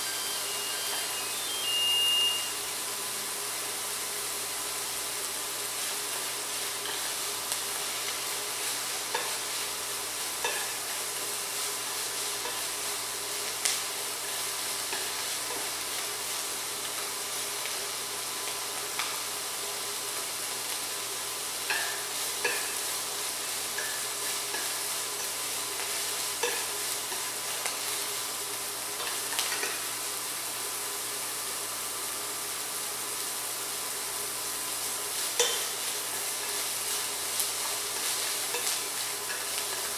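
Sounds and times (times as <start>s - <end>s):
vegetables sizzling in a pot: 0.0s - 39.9s.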